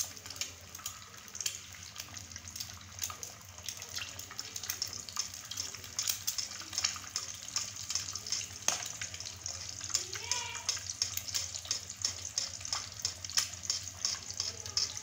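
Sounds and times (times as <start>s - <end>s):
egg sizzling in oil: 0.0s - 15.0s
oil popping and crackling: 0.0s - 15.0s.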